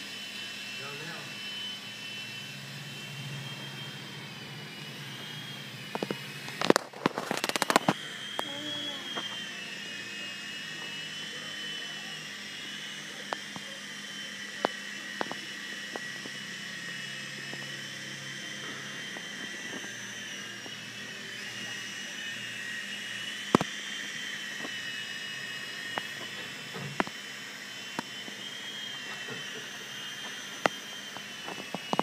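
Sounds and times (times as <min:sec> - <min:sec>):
rc helicopter rotor whine: 0:00.0 - 0:32.0.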